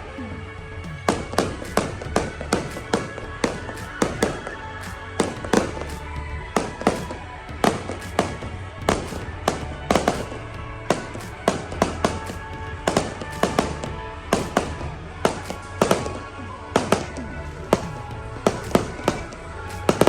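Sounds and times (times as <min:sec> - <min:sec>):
background music: 0:00.0 - 0:20.0
fireworks bangs: 0:01.0 - 0:20.0.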